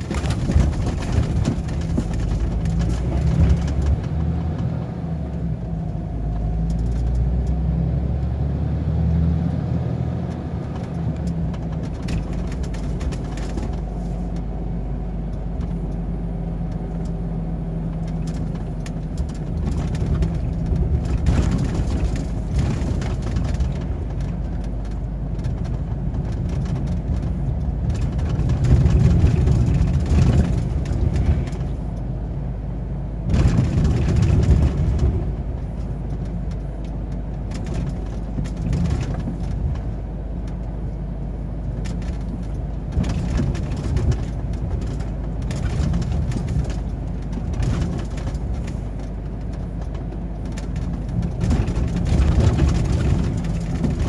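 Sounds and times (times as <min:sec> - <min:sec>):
truck engine running: 0:00.0 - 0:08.3, 0:09.6 - 0:54.0
tyre and road noise: 0:00.0 - 0:54.0.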